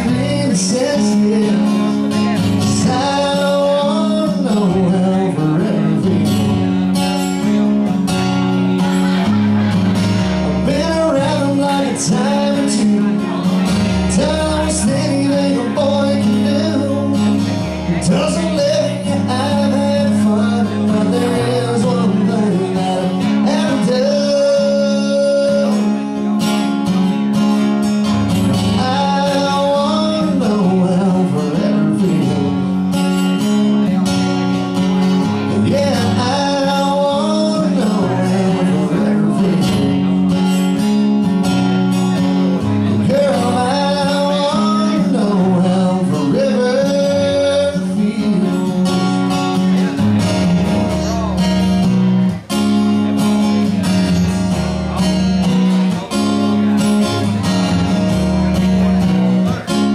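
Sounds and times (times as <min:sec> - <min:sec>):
man singing: 0:00.0 - 0:08.2, 0:08.8 - 0:41.3, 0:41.9 - 0:59.9
strummed acoustic guitar: 0:00.0 - 0:59.9.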